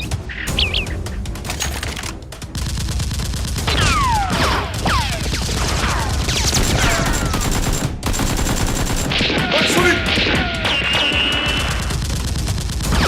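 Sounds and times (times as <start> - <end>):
gunfire volleys: 0.0 - 13.0.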